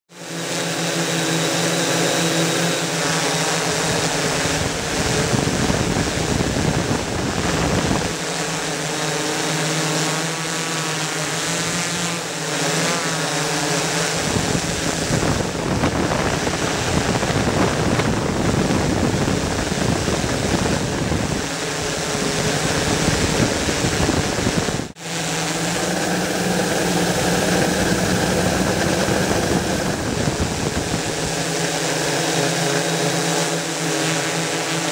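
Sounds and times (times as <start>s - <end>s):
drone motors buzzing: 0.1s - 34.9s.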